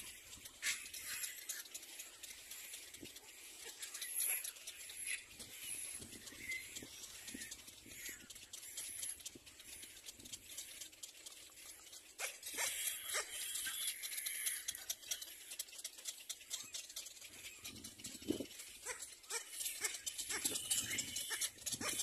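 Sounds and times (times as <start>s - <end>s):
high chatter of birds: 0.0s - 10.8s, 11.7s - 22.0s
cormorant clicks: 0.0s - 22.0s.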